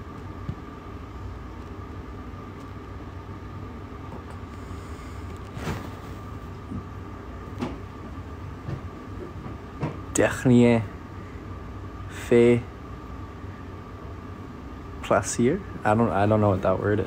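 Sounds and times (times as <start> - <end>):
room hum: 0.0 - 17.0
thin constant whine: 0.0 - 17.0.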